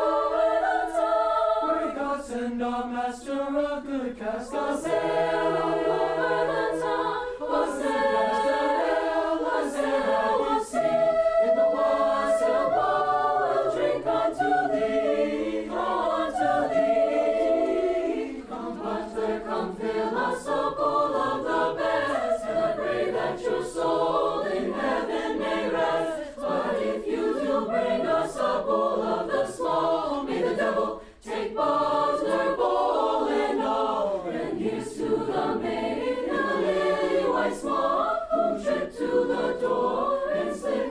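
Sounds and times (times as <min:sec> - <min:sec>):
choir singing in harmony: 0:00.0 - 0:40.9.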